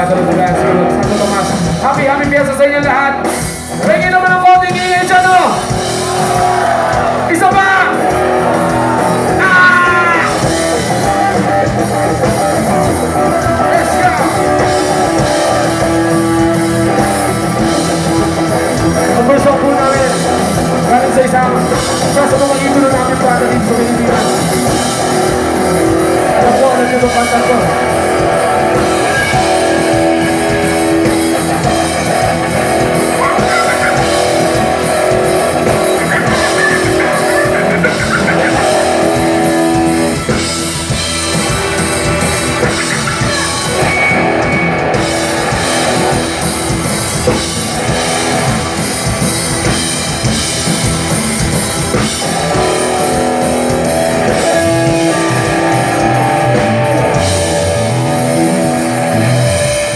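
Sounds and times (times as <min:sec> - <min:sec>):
drum kit: 0:00.0 - 0:59.9
electric guitar: 0:00.0 - 0:59.9
live rock band playing: 0:00.0 - 0:59.9.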